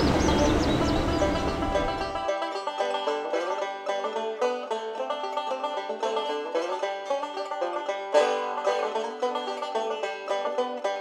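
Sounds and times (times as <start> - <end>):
banjo tune: 0.1 - 11.0.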